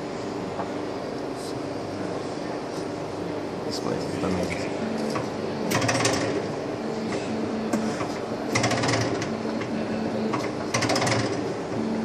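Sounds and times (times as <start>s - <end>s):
workshop machine motor hum: 0.0s - 12.0s.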